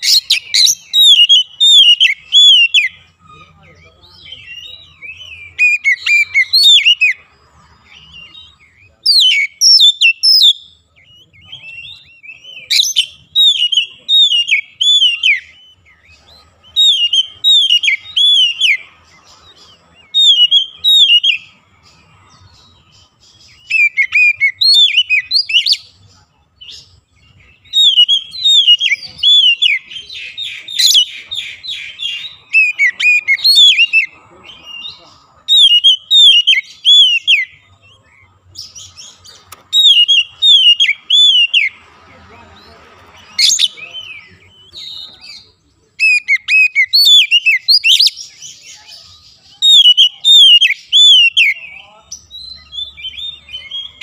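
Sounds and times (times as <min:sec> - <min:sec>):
bird singing whistles: 0:00.0 - 0:03.0, 0:04.2 - 0:07.2, 0:08.0 - 0:18.8, 0:19.5 - 0:21.6, 0:23.4 - 0:25.9, 0:26.7 - 0:41.8, 0:43.2 - 0:54.0.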